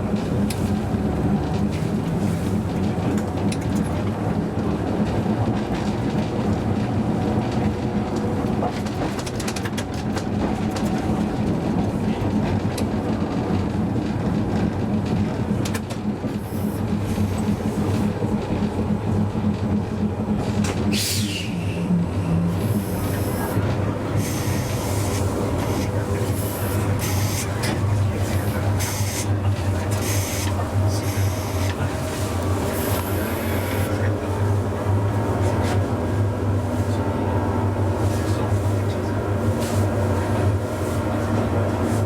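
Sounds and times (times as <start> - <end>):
tram motor hum: 0.0 - 42.0
wheels rumbling on rail: 0.0 - 42.0.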